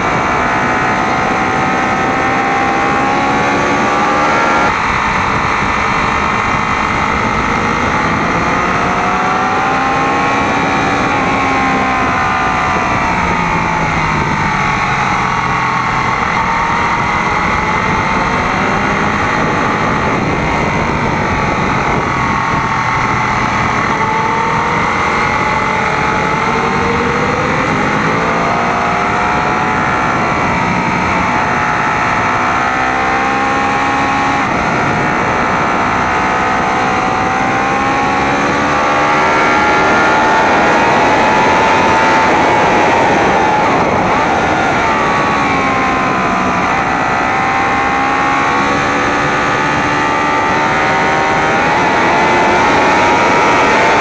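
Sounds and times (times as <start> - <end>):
motorcycle engine revving: 0.0 - 54.0
wind noise: 0.0 - 54.0.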